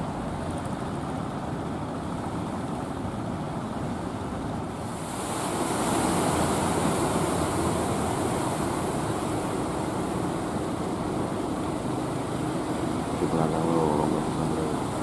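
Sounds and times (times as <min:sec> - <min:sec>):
waves and surf rushing: 0:00.0 - 0:15.0.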